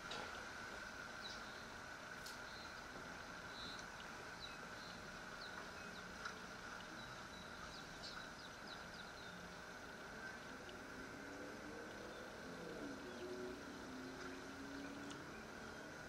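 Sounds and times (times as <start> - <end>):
high even hum: 0.0 - 16.0
steady hiss: 0.0 - 16.0
small birds chirping: 1.1 - 16.0.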